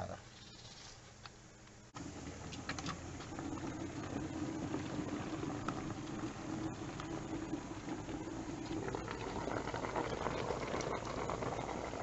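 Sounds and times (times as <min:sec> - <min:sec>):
wood fire burning and crackling: 0:02.0 - 0:12.0.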